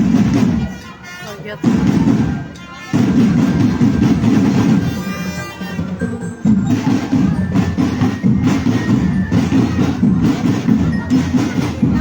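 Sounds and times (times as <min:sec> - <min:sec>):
marching drum band playing: 0:00.0 - 0:12.0.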